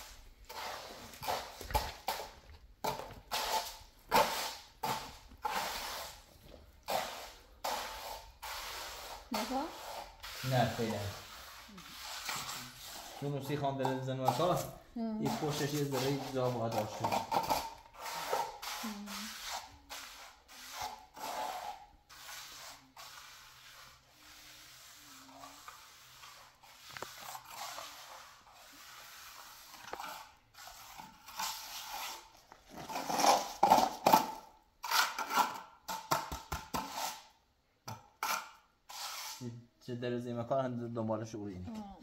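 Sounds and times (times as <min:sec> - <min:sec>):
trowel scraping wet cement: 0:00.0 - 0:39.5.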